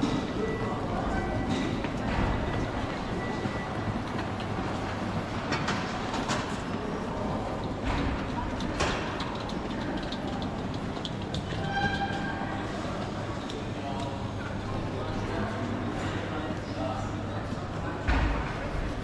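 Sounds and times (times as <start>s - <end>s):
airport terminal hum: 0.0s - 19.0s.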